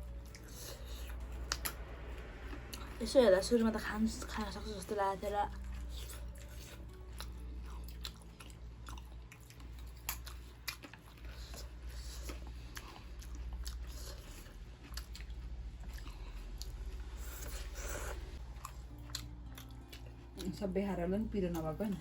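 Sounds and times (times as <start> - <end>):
person chewing food: 0.0 - 3.0, 5.5 - 20.6.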